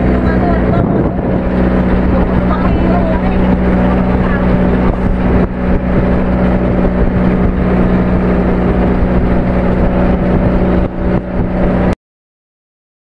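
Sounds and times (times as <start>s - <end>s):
water splashing: 0.0s - 11.9s
boat engine running: 0.0s - 12.0s
wind: 0.0s - 12.0s.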